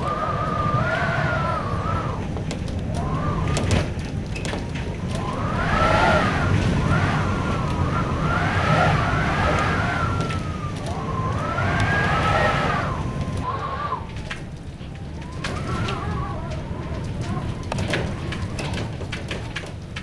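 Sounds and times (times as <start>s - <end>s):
low rumble: 0.0s - 19.7s
wind howling and whistling: 0.0s - 20.0s.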